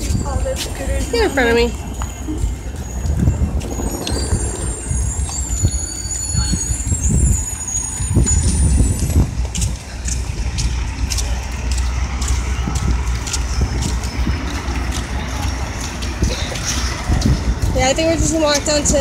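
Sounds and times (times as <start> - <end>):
buses and cars passing: 0.0 - 19.0
high-pitched squeal: 0.0 - 19.0.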